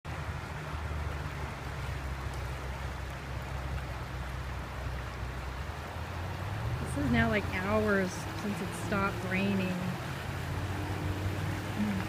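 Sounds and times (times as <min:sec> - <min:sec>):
floodwater rushing: 0:00.1 - 0:12.0.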